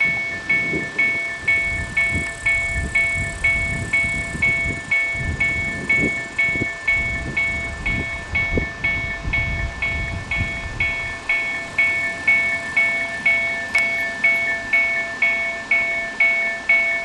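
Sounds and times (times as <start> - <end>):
crossing warning bell ringing: 0.0 - 17.0
freight train wagons rumbling: 0.0 - 17.0.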